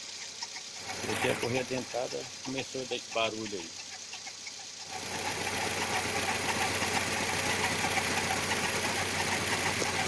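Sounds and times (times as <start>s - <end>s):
car engine idling: 0.0s - 10.0s
fast even ticking: 0.1s - 10.0s.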